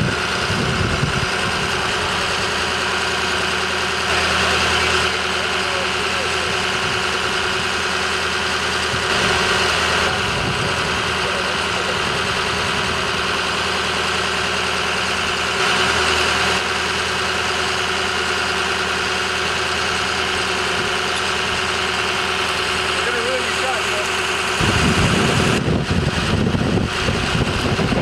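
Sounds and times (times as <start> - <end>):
fire engine idling: 0.0 - 28.0.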